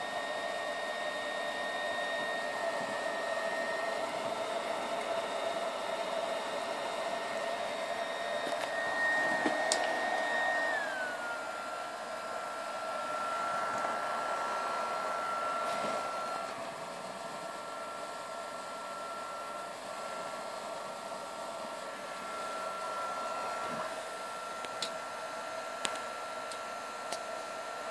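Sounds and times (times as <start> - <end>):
stove fan whirring with whine: 0.0 - 27.9.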